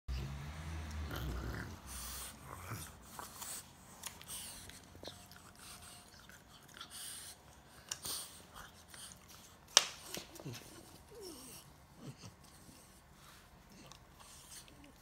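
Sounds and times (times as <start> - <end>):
dog breathing and snuffling: 0.2 - 15.0.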